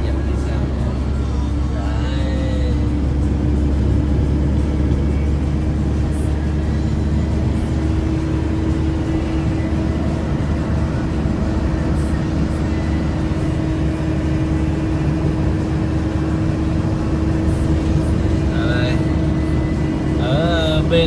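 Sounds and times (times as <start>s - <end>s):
tyre and road noise: 0.0s - 21.0s
van engine hum: 0.0s - 21.0s.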